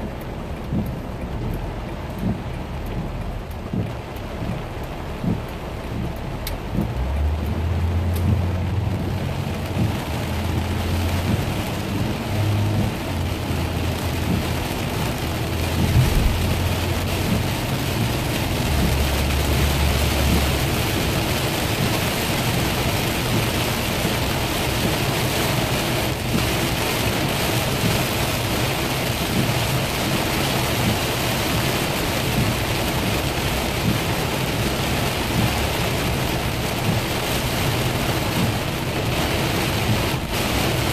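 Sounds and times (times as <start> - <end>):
car drone on wet road: 0.0 - 40.9
heavy rain on car windshield: 0.0 - 40.9.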